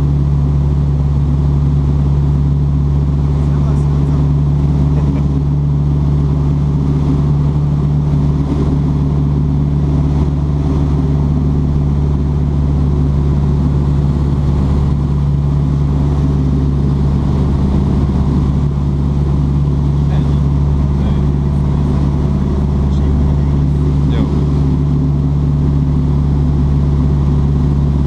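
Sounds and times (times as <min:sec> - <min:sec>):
aircraft piston engine droning: 0:00.0 - 0:28.0.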